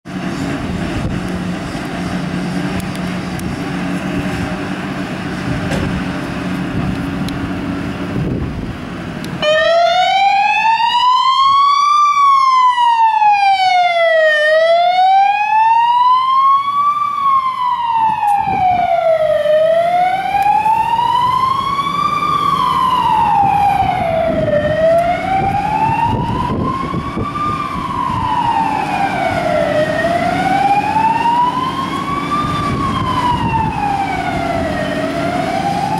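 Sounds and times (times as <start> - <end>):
diesel engine running: 0.1 - 9.8, 16.6 - 35.9
fire engine siren wailing: 0.1 - 35.9.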